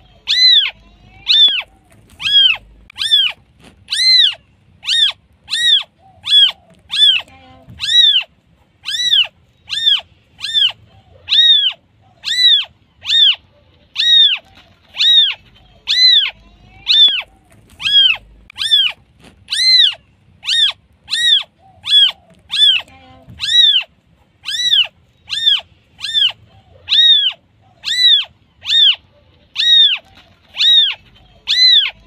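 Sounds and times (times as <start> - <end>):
kitten mewing: 0.0 - 32.0.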